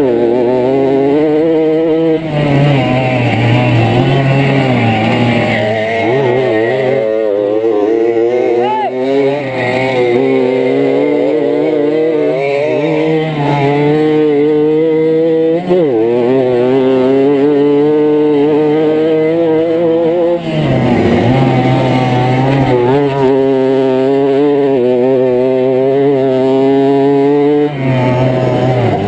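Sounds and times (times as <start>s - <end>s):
moped engine running at high revs: 0.0s - 29.0s.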